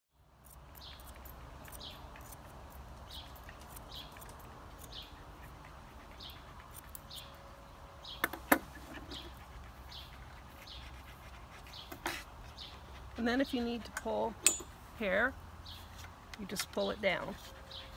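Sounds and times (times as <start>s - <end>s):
bird chirping: 0.4s - 17.9s.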